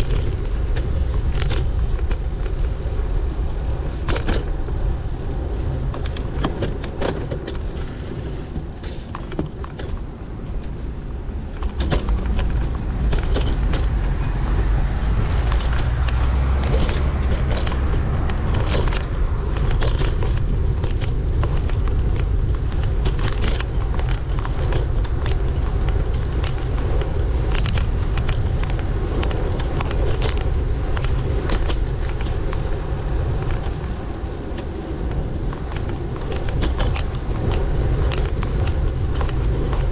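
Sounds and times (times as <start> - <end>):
bicycle clicks and rattles: 0.0 - 39.9
wind and road rumble: 0.0 - 39.9.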